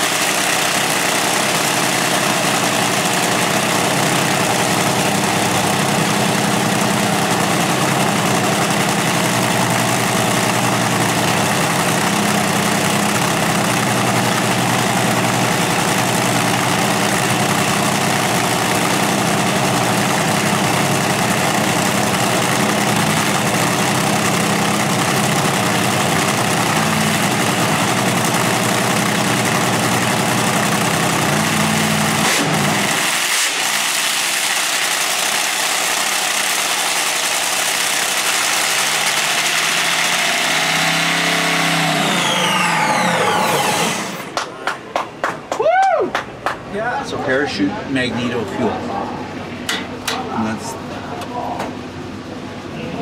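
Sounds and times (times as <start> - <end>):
supercharged engine idling loudly: 0.0 - 44.8, 47.1 - 53.0.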